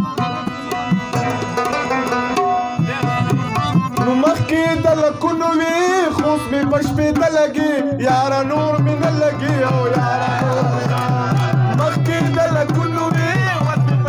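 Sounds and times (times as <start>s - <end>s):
tabla beat: 0.0s - 14.0s
wavering folk melody: 0.0s - 14.0s.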